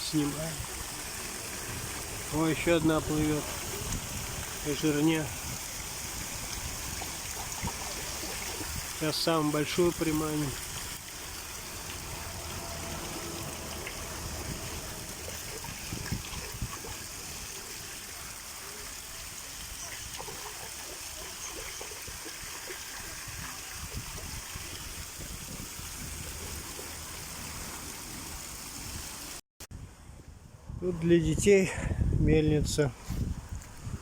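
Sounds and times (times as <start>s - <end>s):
water flowing and trickling: 0.0s - 29.4s.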